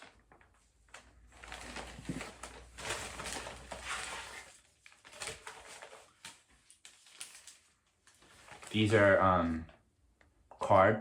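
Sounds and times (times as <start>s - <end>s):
packaging rustling: 0.0s - 9.1s.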